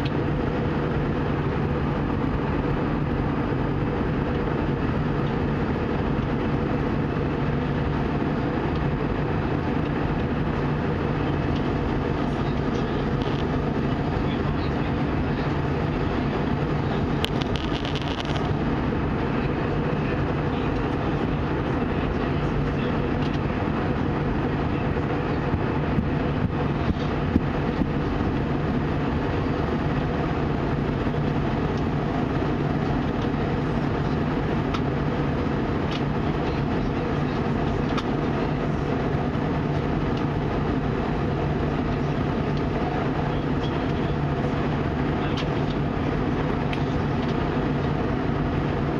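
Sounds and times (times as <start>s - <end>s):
airplane cabin engine rush: 0.0s - 48.9s.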